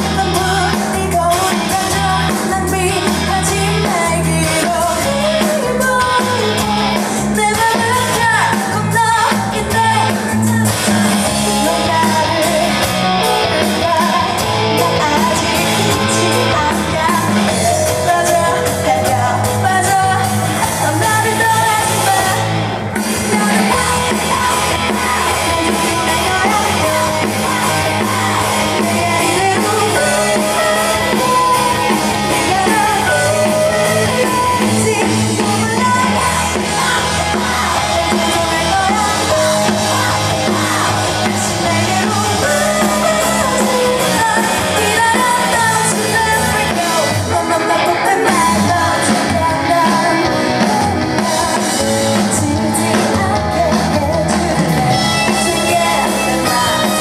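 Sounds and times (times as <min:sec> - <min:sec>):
live band playing: 0:00.0 - 0:57.0
woman singing into microphone: 0:00.0 - 0:57.0.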